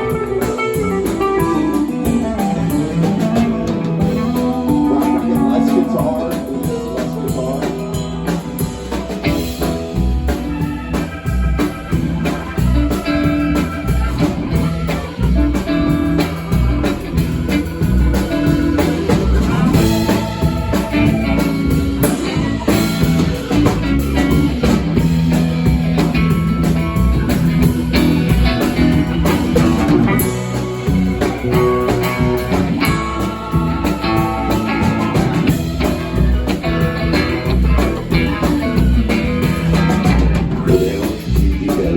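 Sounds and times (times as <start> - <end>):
blues-rock band playing: 0.0 - 41.9.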